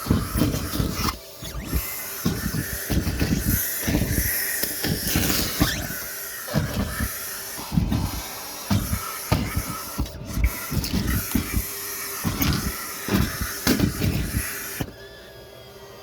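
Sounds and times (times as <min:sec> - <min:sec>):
trash thumping in vacuum hose: 0:00.0 - 0:15.0
vacuum hose hissing rush: 0:00.0 - 0:16.0.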